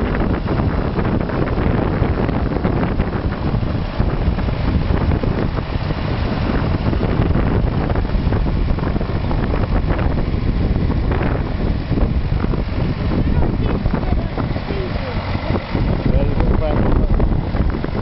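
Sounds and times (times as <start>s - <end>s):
tractor diesel engines under load: 0.0s - 18.0s
wind noise on microphone: 0.0s - 18.0s.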